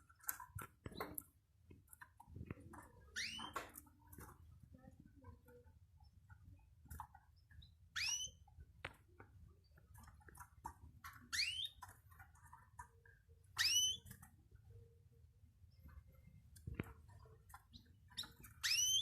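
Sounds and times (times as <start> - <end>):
bird small chirps and clicks: 0.0 - 4.4, 6.0 - 14.6, 15.7 - 19.0.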